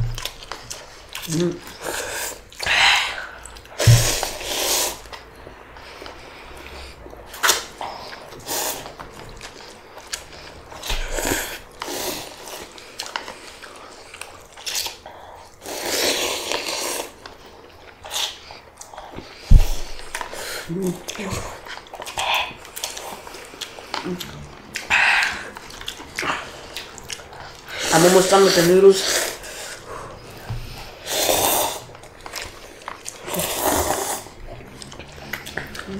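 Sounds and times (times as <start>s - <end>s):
slurping and chewing noodles: 0.0s - 35.9s.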